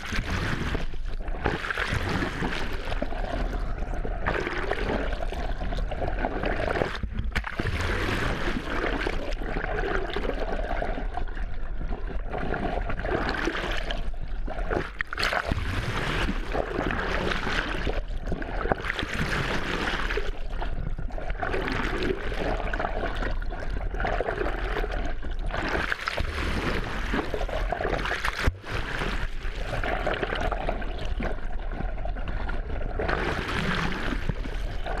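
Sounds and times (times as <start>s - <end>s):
muffled seawater rushing underwater: 0.0s - 35.0s.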